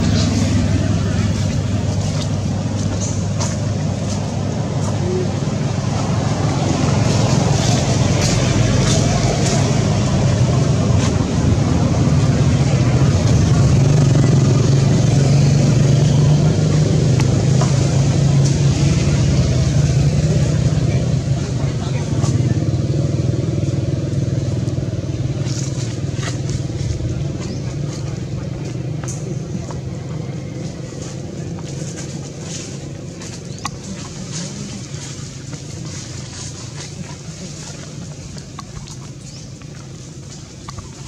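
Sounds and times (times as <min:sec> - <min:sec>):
low engine rumble: 0:00.0 - 0:41.0.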